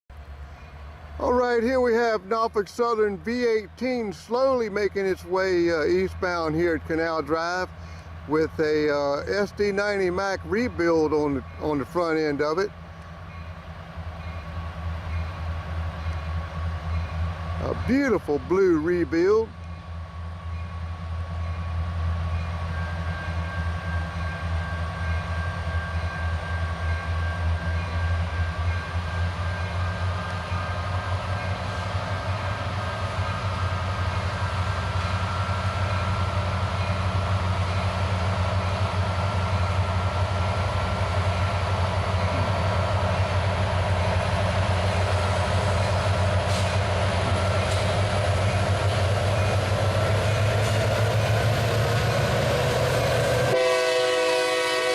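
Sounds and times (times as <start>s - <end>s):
locomotive engine drone: 0.1s - 54.9s.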